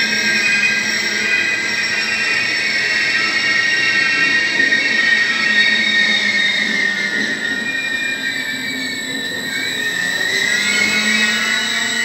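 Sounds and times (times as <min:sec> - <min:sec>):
train wheels squealing: 0:00.0 - 0:12.0.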